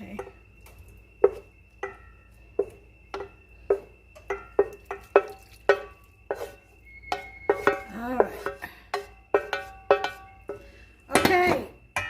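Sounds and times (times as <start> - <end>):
utensil knocking and scraping a pan: 0.0 - 0.5, 1.2 - 12.0
faint steady high tone: 0.0 - 12.0.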